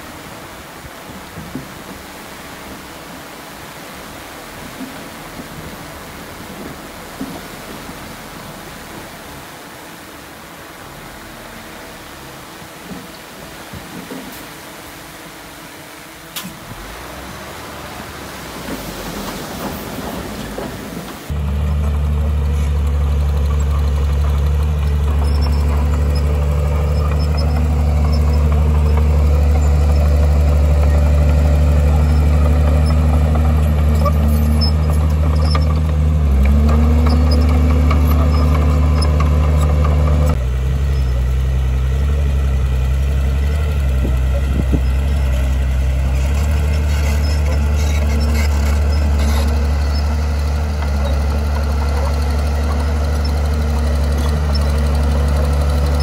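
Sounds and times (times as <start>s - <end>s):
heavy diesel engine droning: 4.0s - 56.0s.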